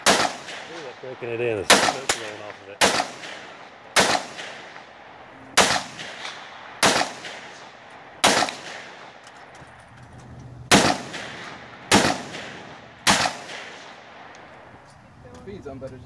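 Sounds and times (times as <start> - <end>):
handgun shots echoing: 0.0 - 14.7.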